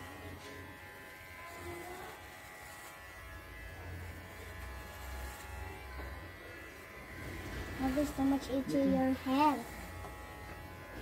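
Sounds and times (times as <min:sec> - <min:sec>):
electric hair clippers buzzing: 0:00.0 - 0:11.0.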